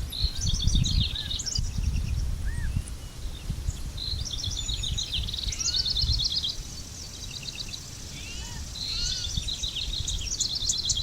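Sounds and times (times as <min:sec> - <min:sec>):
songbirds singing trills: 0:00.0 - 0:11.0.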